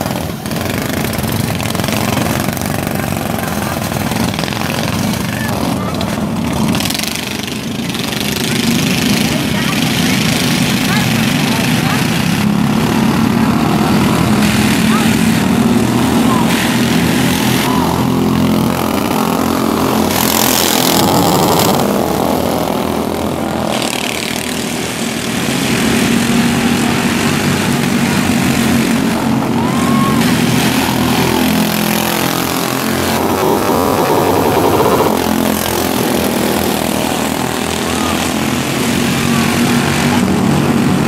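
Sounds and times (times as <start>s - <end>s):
race car engines roaring: 0.0s - 41.0s.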